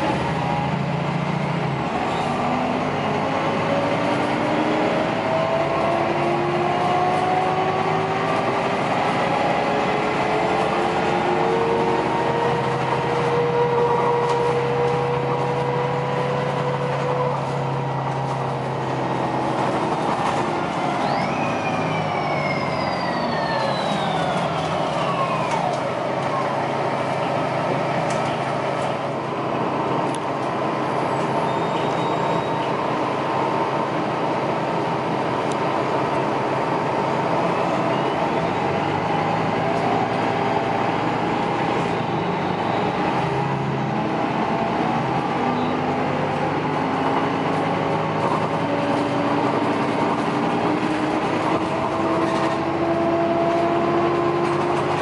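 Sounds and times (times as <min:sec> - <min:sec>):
bus engine and drivetrain: 0:00.0 - 0:55.0
road noise: 0:00.0 - 0:55.0.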